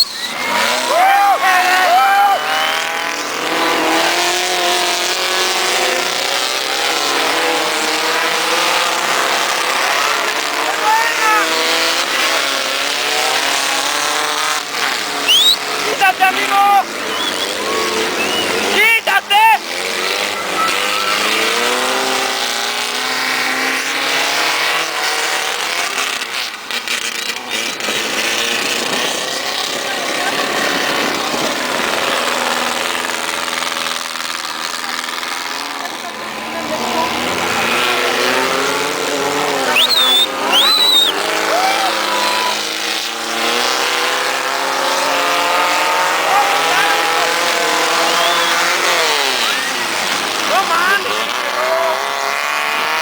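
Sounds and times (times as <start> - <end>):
race car engines revving high: 0.0 - 53.0.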